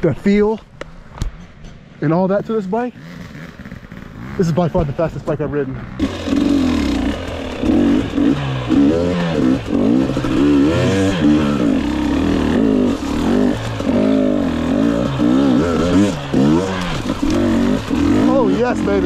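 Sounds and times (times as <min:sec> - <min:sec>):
motorcycle engine revving: 0:02.4 - 0:19.0.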